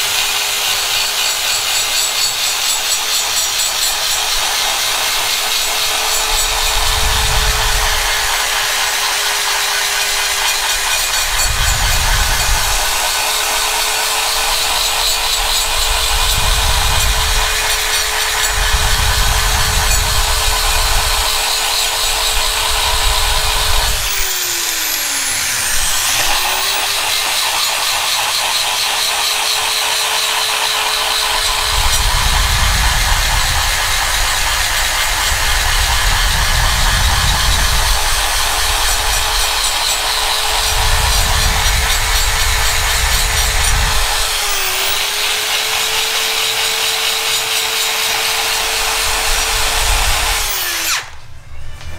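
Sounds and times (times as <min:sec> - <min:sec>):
grinder whining and grinding metal: 0:00.0 - 0:51.9.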